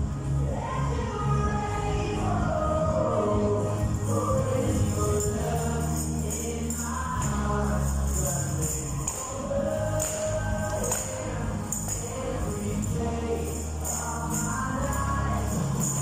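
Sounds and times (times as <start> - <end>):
choir singing worship music: 0.0 - 16.0
tambourine jingling: 2.7 - 16.0.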